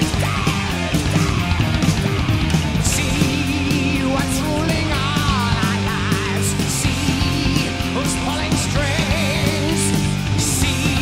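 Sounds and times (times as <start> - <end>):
rock music with guitar: 0.0 - 11.0.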